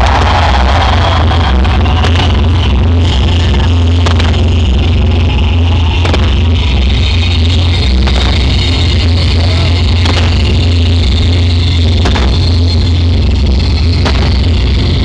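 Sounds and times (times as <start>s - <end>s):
fireworks hissing and crackling: 0.0s - 15.0s
loud music with heavy bass: 0.0s - 15.0s
sharp hit: 0.0s - 15.0s.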